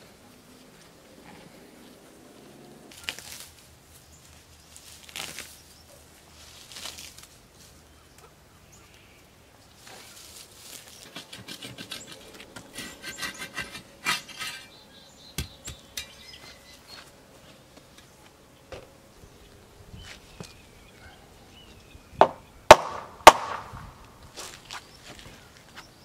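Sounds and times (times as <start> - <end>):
faint birds: 0.0 - 26.0.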